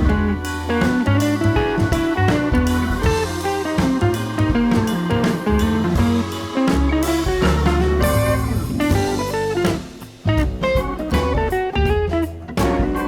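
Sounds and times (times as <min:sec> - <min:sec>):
drum kit: 0:00.0 - 0:13.0
guitar: 0:00.0 - 0:13.0.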